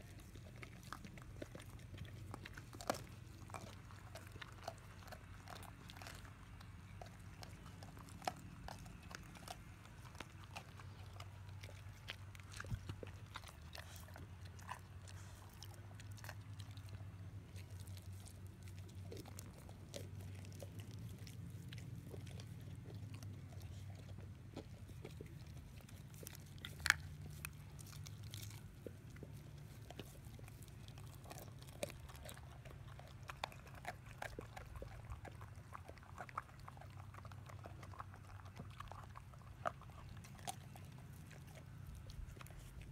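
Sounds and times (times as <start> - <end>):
dogs gnawing and crunching bones: 0.0 - 42.9.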